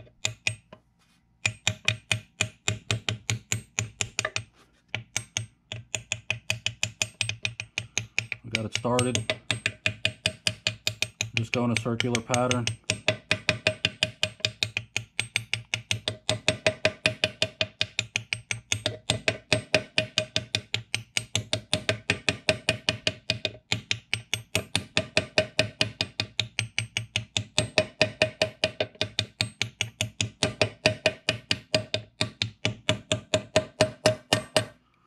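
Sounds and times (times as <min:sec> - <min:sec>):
rapid hammer taps on metal: 0:00.0 - 0:00.8, 0:01.4 - 0:34.8.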